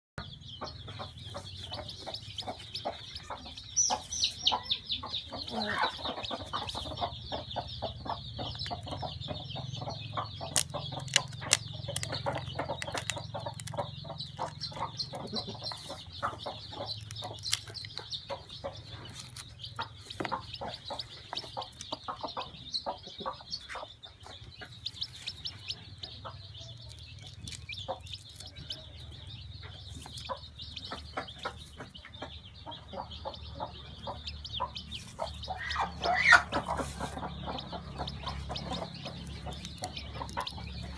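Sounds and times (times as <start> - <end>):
chicks peeping: 0.2 - 40.9.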